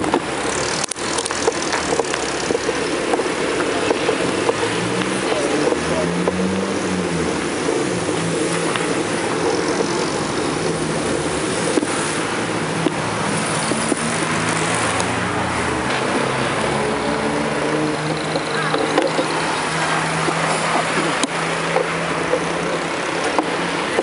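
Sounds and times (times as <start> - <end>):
passing car engines humming: 0.0 - 24.0
wind and road noise: 0.0 - 24.0.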